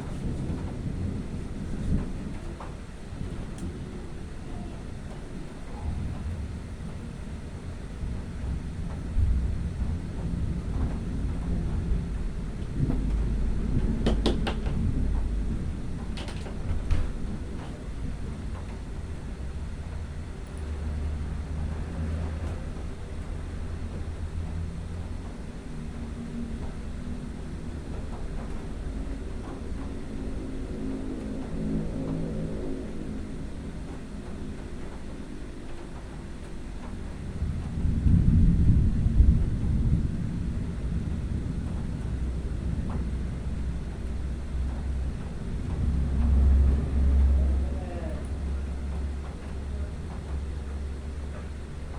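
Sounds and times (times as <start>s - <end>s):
distant thunder rumbling: 0.0s - 51.9s.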